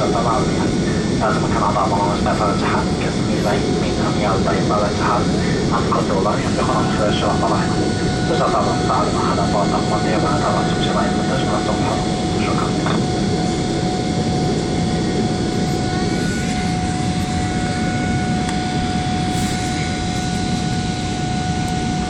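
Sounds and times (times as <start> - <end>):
constant engine whine: 0.0 - 22.0.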